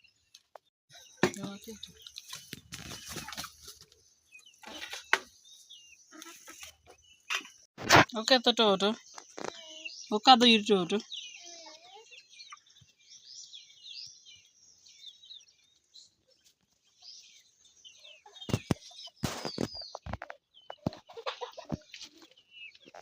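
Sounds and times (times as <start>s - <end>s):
chickens and chicks chirping: 0.1s - 23.0s.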